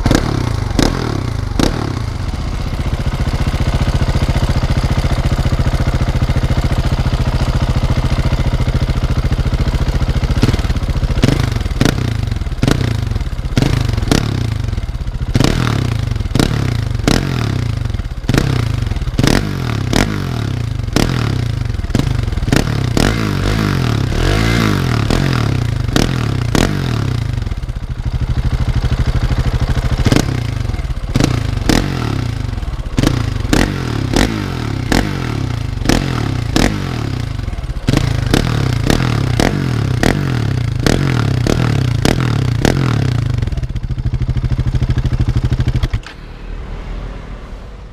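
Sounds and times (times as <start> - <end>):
motorcycle engine idling and revving: 0.0 - 47.9.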